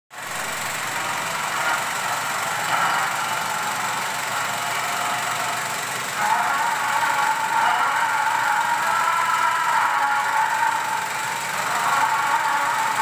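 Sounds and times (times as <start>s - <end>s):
film projector clatter and whir: 0.1s - 13.0s.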